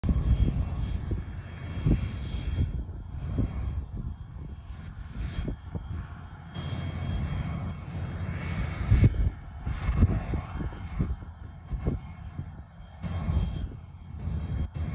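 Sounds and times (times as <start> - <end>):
jet engines whining: 0.0 - 14.9
wind buffeting microphone: 0.0 - 14.9.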